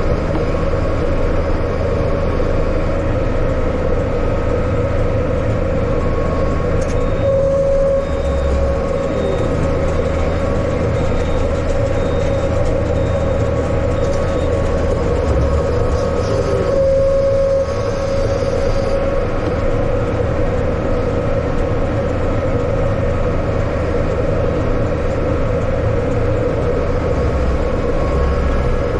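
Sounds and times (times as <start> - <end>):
constant whine: 0.0 - 28.9
tractor engine running: 0.0 - 28.9.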